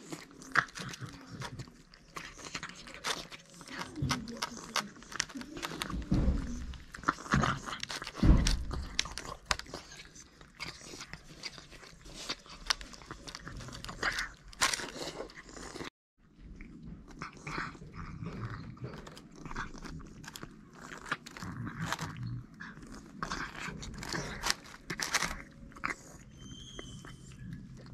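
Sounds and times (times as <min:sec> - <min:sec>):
cats chewing and lapping food: 0:00.0 - 0:27.9.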